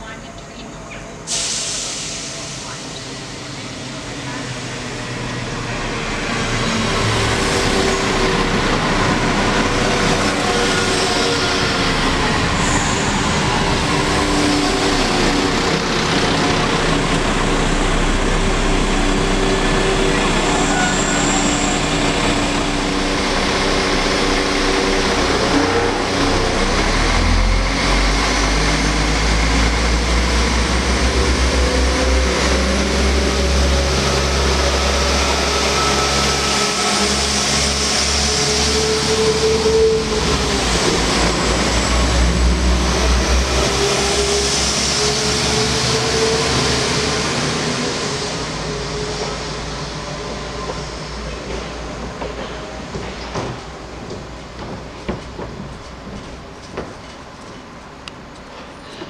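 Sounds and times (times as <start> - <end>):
diesel train engine rumble and whine: 0.0 - 59.0.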